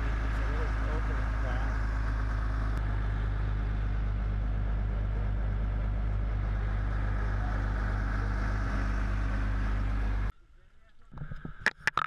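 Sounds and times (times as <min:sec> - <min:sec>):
boat engine drone: 0:00.0 - 0:10.3.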